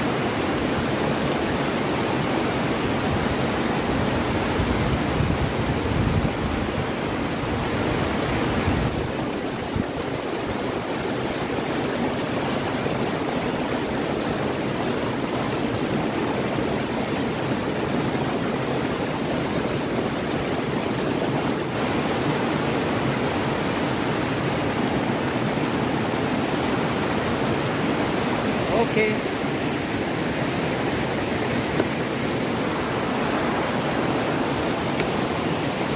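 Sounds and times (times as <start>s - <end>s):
river rapids rushing over rocks: 0.0s - 35.9s.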